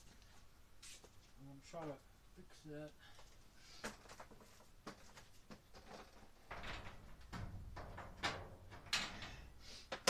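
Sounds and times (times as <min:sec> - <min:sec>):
rustling of objects moved: 0:00.0 - 0:10.0.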